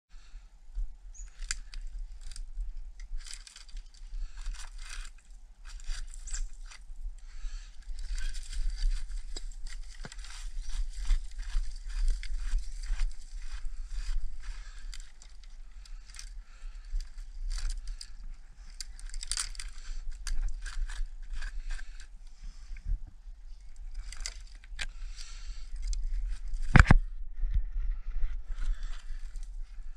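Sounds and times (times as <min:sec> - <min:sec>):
low wind rumble on microphone: 0:00.1 - 0:29.9
gloved hand handling tree trunks: 0:00.3 - 0:29.9
crunching of dry leaves and twigs: 0:01.1 - 0:29.9.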